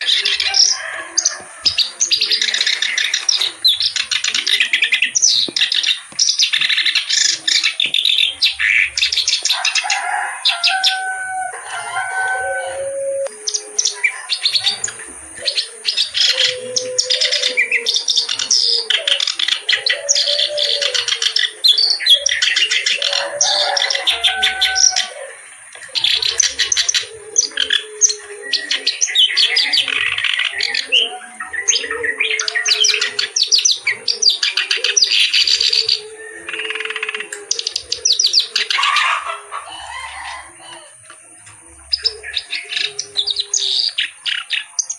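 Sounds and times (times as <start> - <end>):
reed warbler singing: 0.0 - 11.3, 13.3 - 39.2.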